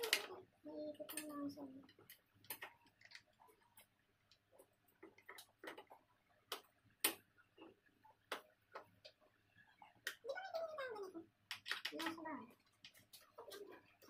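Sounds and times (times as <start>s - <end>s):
chair parts clicking and tapping: 0.0s - 10.2s, 11.5s - 14.0s.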